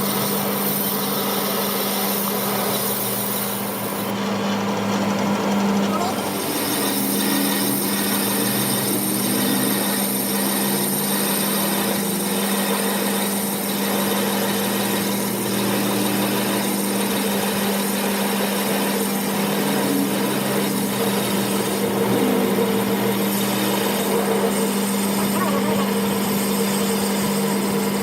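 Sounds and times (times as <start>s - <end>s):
motor humming with hiss: 0.0s - 28.0s.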